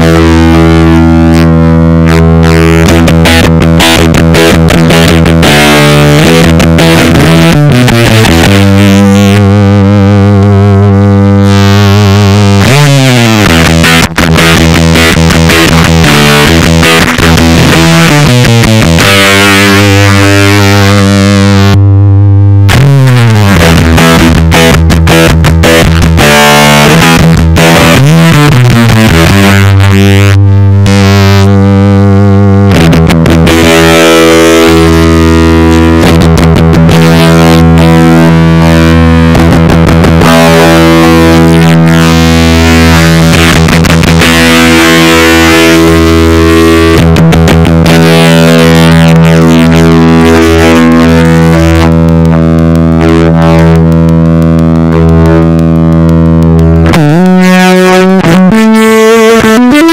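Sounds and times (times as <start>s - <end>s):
fuzzed electric guitar: 0.0s - 59.9s.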